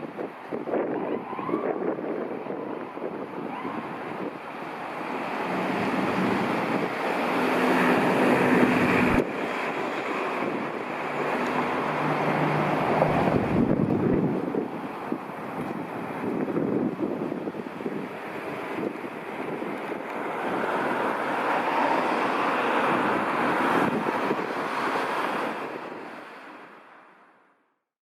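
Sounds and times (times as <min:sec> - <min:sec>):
wind on microphone: 0:00.0 - 0:26.8
vehicle engine and tyre noise: 0:00.0 - 0:27.2.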